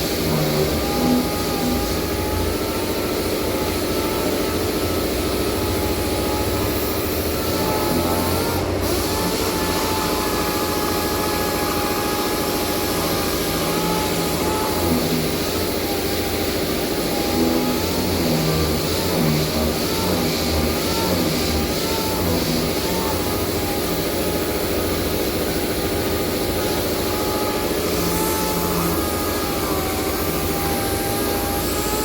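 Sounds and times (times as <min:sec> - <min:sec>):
machine rumbling: 0:00.0 - 0:32.0.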